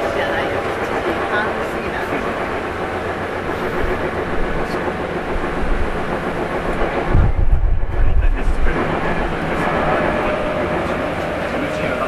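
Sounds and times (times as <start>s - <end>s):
electric train running on rails: 0.0s - 12.0s.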